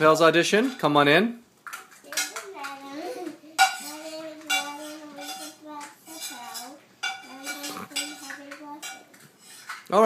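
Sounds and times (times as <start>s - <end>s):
dishes and cutlery clattering: 0.5s - 0.9s, 1.6s - 10.0s.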